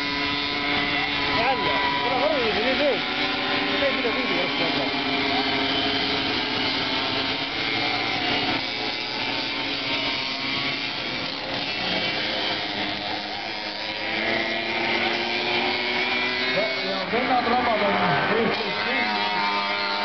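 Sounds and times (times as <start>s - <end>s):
two-stroke engines buzzing: 0.0s - 20.0s.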